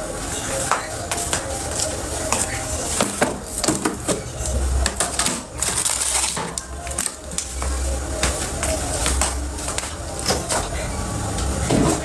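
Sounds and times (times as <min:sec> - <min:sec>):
utensils clattering on dishes: 0:00.0 - 0:12.0.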